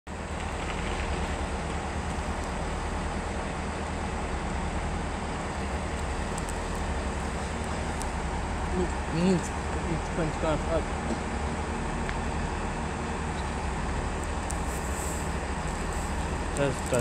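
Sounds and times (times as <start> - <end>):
diesel train rumbling: 0.1 - 17.0.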